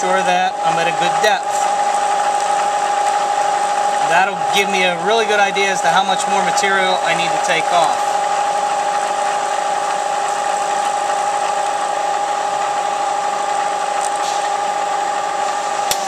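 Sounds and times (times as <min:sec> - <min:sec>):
milling machine hum: 0:00.0 - 0:16.0.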